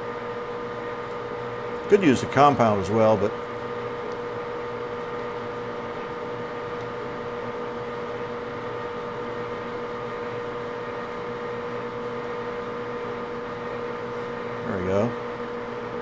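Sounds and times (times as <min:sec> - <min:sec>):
lathe humming: 0:00.0 - 0:16.0.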